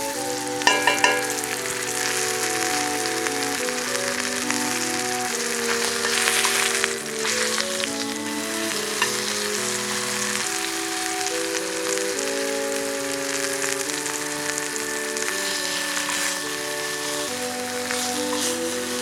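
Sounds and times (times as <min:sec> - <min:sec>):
background music slow held notes: 0:00.0 - 0:19.0
food sizzling: 0:00.0 - 0:19.0.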